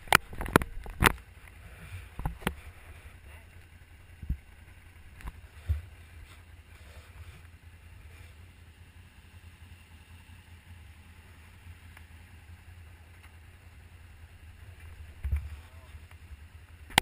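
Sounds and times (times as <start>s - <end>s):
engine idling low rumble: 0.0s - 17.0s.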